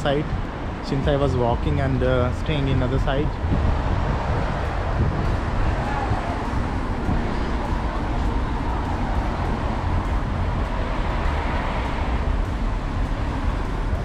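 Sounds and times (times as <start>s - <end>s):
tyre noise: 0.0s - 14.0s
cars driving past on wet road: 2.7s - 14.0s.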